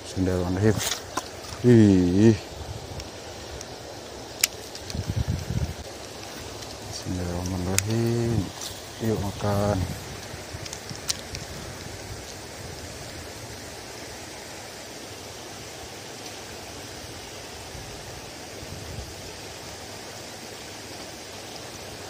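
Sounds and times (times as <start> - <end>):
steady outdoor rushing noise: 0.0 - 22.0.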